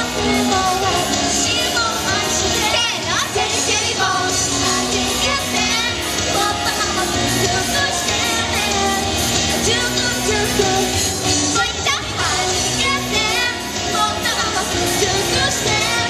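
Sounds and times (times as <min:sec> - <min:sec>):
electric guitar: 0:00.0 - 0:16.0
woman singing into microphone: 0:00.0 - 0:16.0.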